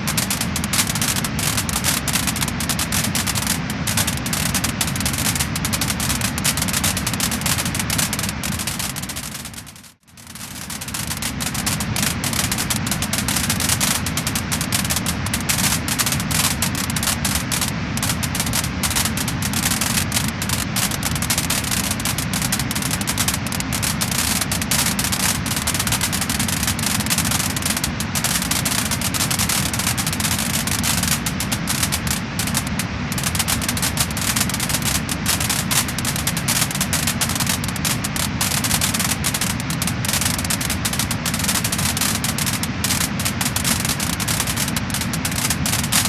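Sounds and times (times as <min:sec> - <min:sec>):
wood fire crackling and popping: 0:00.0 - 0:46.0.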